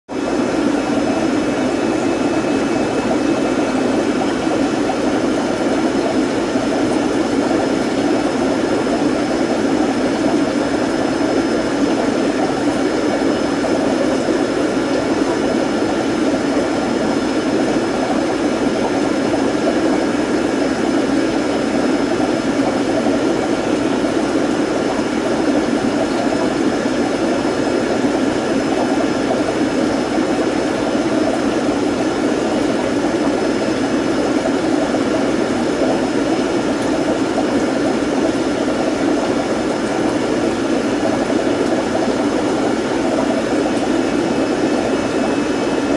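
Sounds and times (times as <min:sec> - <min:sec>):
aquarium air pump humming: 0:00.1 - 0:45.9.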